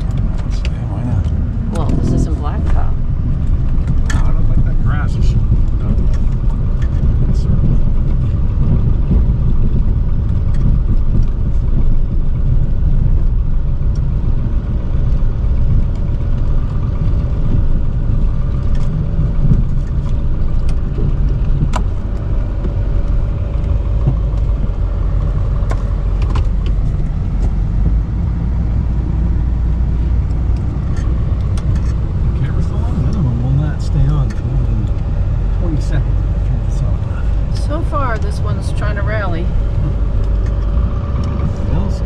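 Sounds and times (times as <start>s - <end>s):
diesel truck engine rumble: 0.0s - 42.0s.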